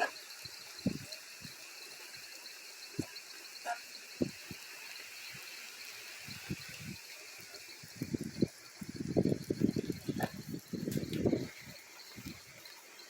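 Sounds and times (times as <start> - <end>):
chorus of frogs and insects: 0.0 - 13.0
rain hiss: 0.0 - 13.0.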